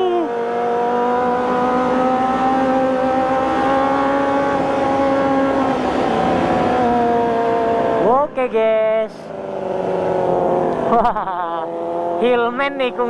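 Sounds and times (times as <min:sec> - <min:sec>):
motorcycle engine running hard: 0:00.0 - 0:08.4, 0:09.3 - 0:13.0
road and wind noise: 0:00.0 - 0:13.0.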